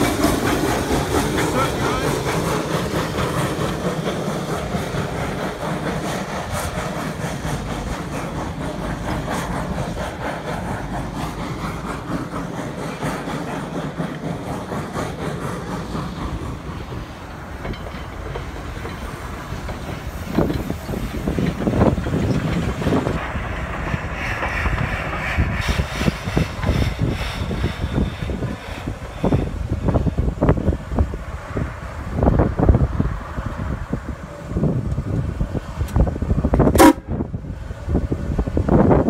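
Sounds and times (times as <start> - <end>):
train wheels clattering on rails: 0.0 - 34.1, 34.8 - 39.0
steam locomotive exhaust: 0.0 - 39.0.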